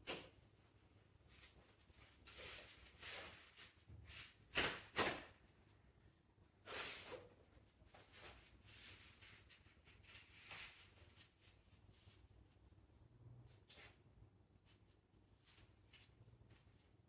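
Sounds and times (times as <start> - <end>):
faint rustles and scrapes: 0.3 - 4.5, 5.5 - 17.0.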